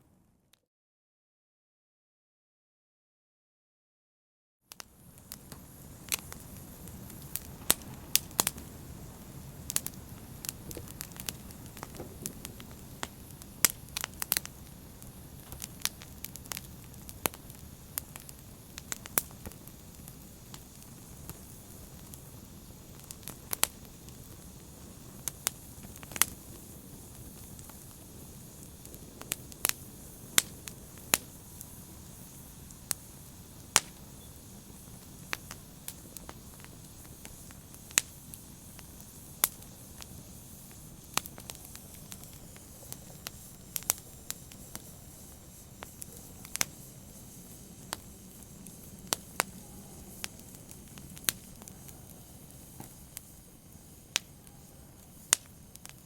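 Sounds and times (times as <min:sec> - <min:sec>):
fire crackling and popping: 0:04.7 - 0:56.0
low rumble of burning: 0:04.8 - 0:56.0.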